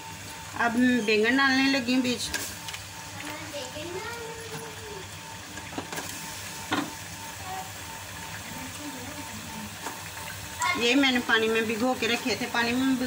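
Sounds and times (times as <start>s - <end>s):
potatoes sizzling in hot fat: 0.0s - 13.0s.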